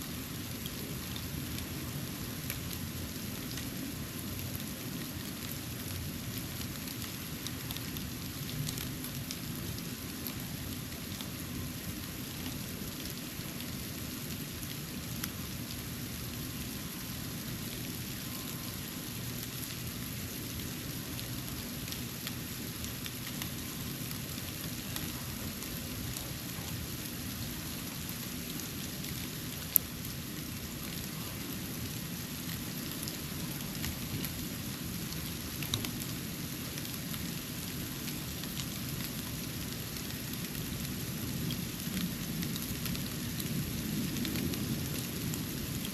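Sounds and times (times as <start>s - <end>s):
snow falling hiss: 0.0s - 45.9s.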